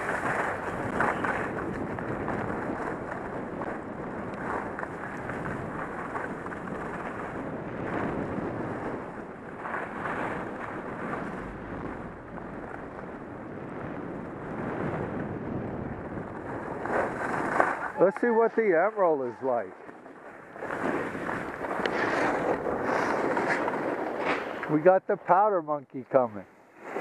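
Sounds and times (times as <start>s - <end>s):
skis sliding on packed snow: 0.0s - 13.1s, 14.5s - 27.0s
wind rushing over microphone: 0.0s - 25.6s.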